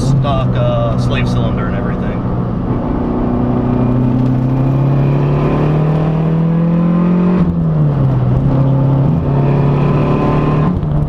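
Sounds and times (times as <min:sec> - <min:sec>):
turbocharged car engine accelerating: 0:00.0 - 0:11.0.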